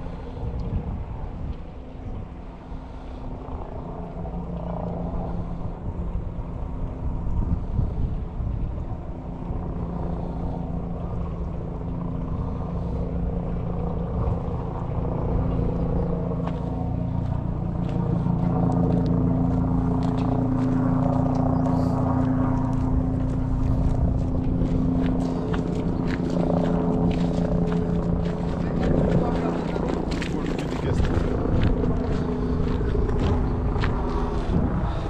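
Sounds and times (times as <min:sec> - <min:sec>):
ferry engine humming: 0:00.0 - 0:35.0.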